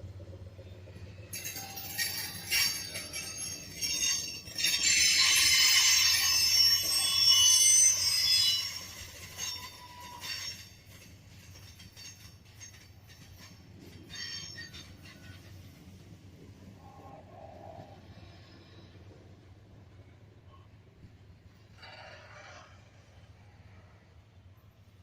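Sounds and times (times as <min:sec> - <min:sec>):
low rumble of passing train cars: 0:00.0 - 0:25.0
train wheels squealing: 0:00.1 - 0:24.9.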